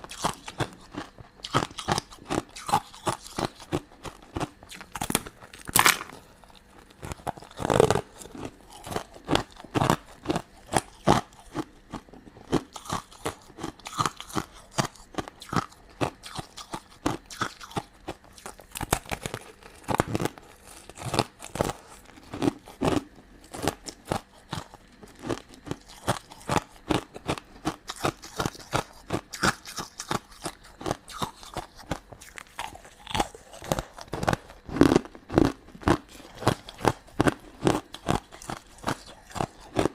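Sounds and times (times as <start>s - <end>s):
chewing and crunching candy: 0.0s - 39.9s.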